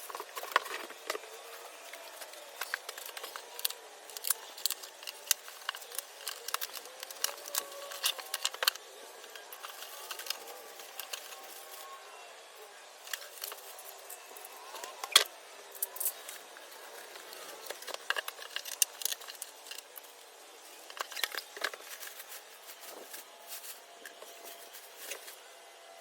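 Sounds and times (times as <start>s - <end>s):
packaging clicks and rustling: 0.0s - 11.9s, 14.8s - 20.1s, 20.8s - 25.4s.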